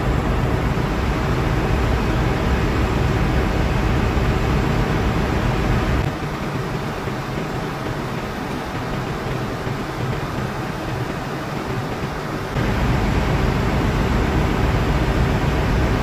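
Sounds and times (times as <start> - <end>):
compressor machinery drone: 0.0 - 16.0.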